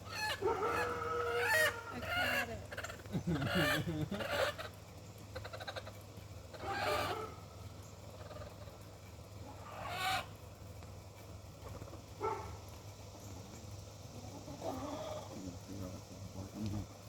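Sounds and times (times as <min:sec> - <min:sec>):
chickens squawking: 0:00.0 - 0:10.6, 0:11.5 - 0:15.7.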